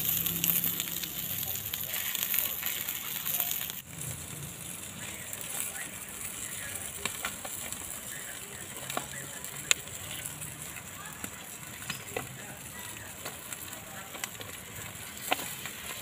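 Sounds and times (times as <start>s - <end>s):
fish sizzling on a grill: 0.0s - 16.0s.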